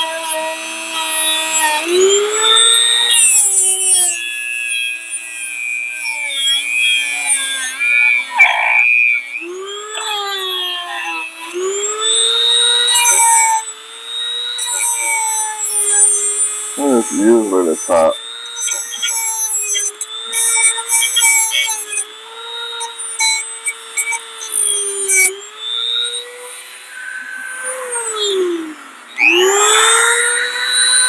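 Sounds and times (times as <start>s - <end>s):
power tool motor whining: 0.0s - 31.0s.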